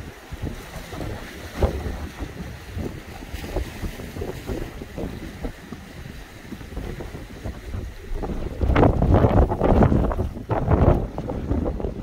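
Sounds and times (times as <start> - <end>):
waves splashing against rocks: 0.0 - 12.0
wind buffeting microphone: 0.0 - 12.0.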